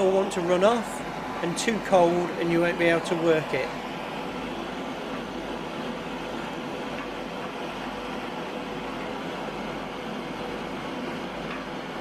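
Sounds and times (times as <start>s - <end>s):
gas torch flame hissing: 0.0s - 11.9s.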